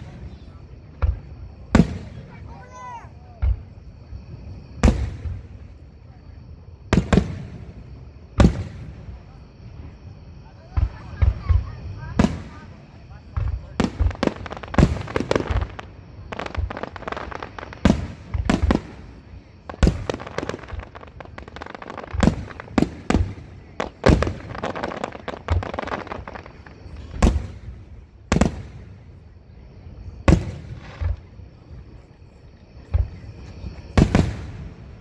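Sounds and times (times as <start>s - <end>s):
fireworks bangs: 0.0s - 3.8s, 4.4s - 5.7s, 6.9s - 10.0s, 10.6s - 29.2s, 30.2s - 32.0s, 32.8s - 35.0s
fireworks crackling: 0.0s - 6.1s, 6.9s - 10.0s, 10.6s - 29.3s, 30.1s - 35.0s.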